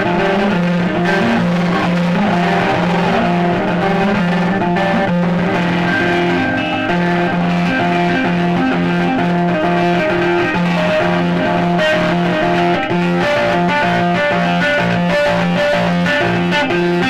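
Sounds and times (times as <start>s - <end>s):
electric guitar riff: 0.0s - 17.0s.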